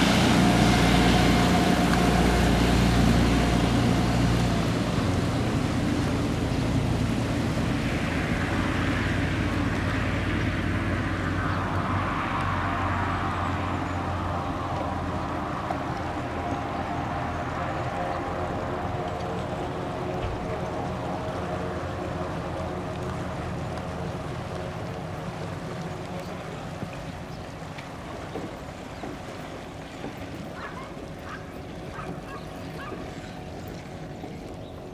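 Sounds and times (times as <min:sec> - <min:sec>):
propeller noise: 0:00.0 - 0:34.9
turboprop engine drone: 0:00.0 - 0:34.9.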